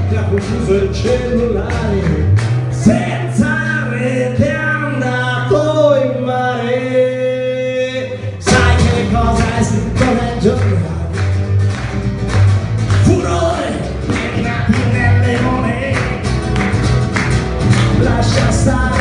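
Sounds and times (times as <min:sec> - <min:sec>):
man singing: 0:00.0 - 0:11.4, 0:12.9 - 0:16.4, 0:17.7 - 0:19.0
electric bass: 0:00.0 - 0:19.0
strummed acoustic guitar: 0:00.0 - 0:19.0.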